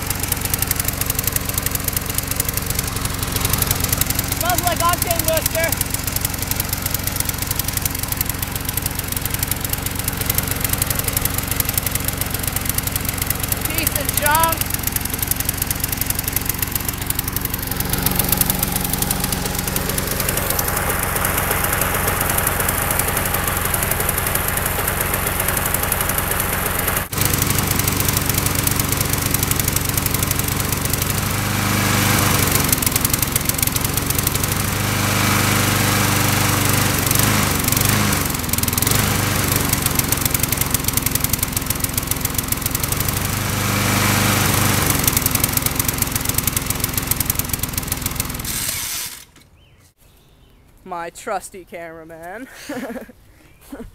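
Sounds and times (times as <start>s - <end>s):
lawn mower engine running: 0.0s - 49.8s.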